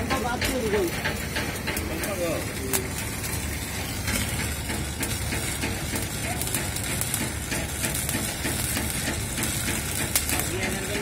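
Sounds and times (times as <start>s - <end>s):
arc welding crackling hiss: 0.0s - 11.0s
low machine hum: 0.0s - 11.0s.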